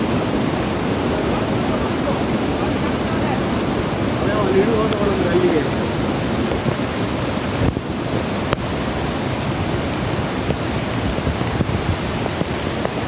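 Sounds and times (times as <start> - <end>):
waterfall rushing: 0.0 - 13.0
wind buffeting microphone: 0.0 - 13.0.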